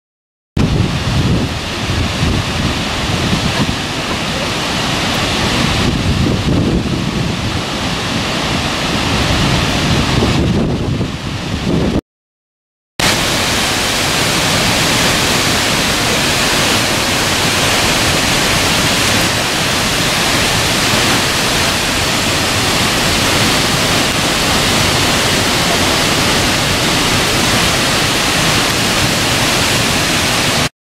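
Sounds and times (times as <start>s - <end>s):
waterfall rushing: 0.6s - 11.6s, 13.0s - 30.7s.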